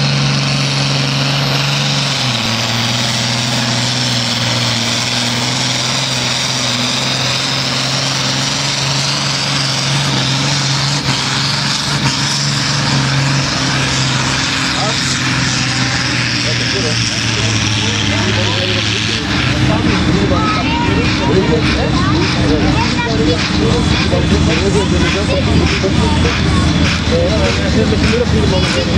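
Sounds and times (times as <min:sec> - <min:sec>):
tractor diesel engine droning: 0:00.0 - 0:28.9.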